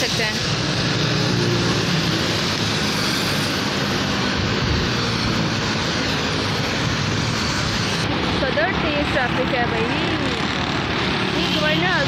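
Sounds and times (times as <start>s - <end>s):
cars passing: 0.0s - 12.0s
motorcycles passing: 0.0s - 12.0s.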